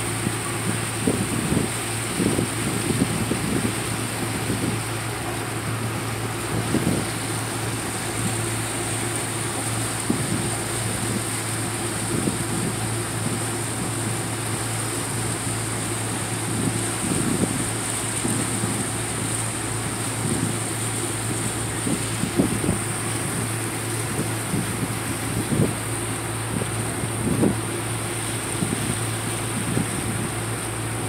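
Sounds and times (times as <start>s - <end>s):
boat engines droning: 0.0s - 31.0s.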